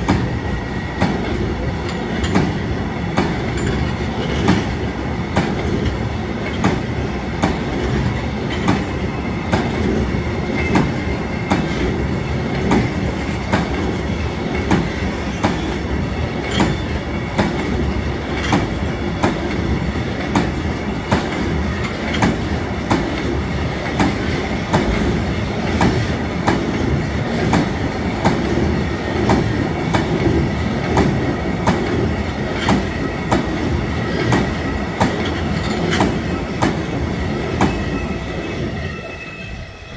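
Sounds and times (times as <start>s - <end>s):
train wheels clicking on rail joints: 0.0s - 38.9s
train rumble: 0.0s - 39.9s.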